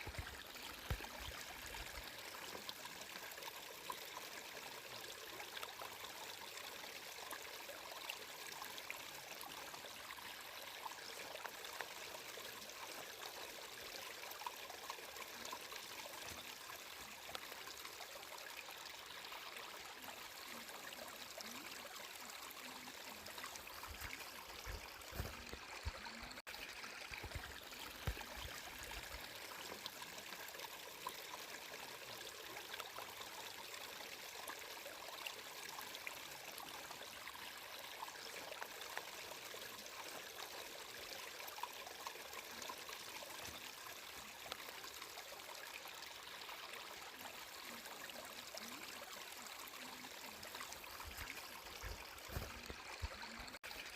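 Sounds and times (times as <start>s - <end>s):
water flowing: 0.0s - 53.9s.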